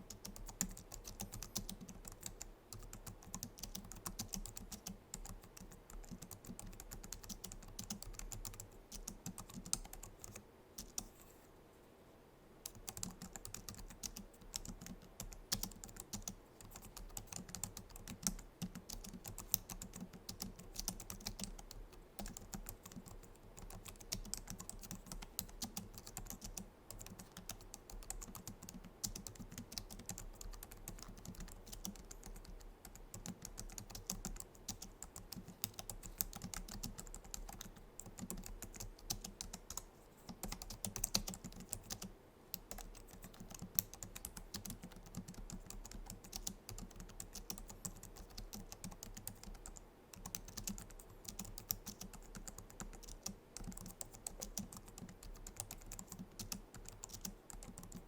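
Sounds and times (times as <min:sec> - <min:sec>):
fast keyboard typing: 0:00.0 - 0:11.1, 0:12.6 - 0:58.0.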